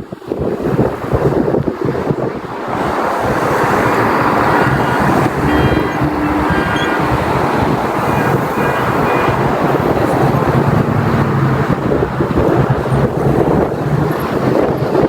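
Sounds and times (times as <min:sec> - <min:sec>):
road traffic passing: 0:00.0 - 0:15.0
low engine hum: 0:02.5 - 0:15.0.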